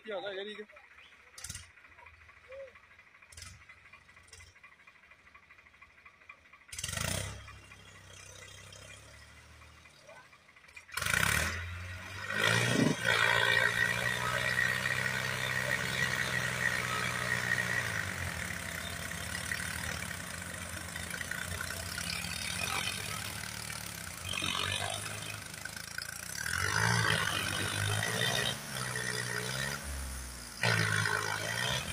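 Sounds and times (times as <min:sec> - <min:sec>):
tractor diesel engines revving: 0:00.0 - 0:31.9.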